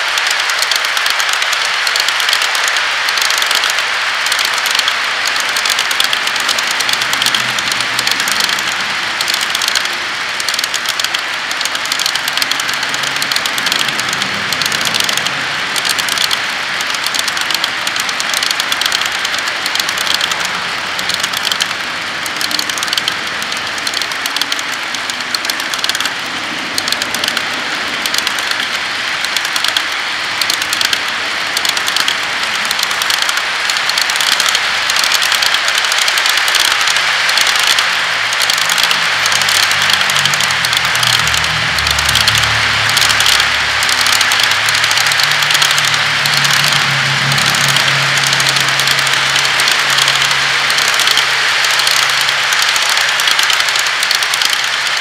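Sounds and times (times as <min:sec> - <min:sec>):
model train wheels clattering: 0:00.0 - 0:55.0.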